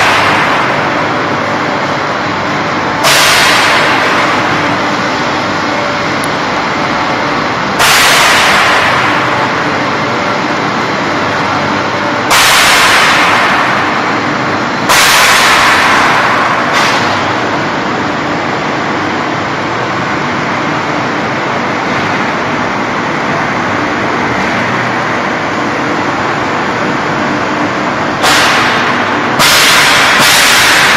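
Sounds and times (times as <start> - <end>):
production line machinery running: 0.0 - 30.9.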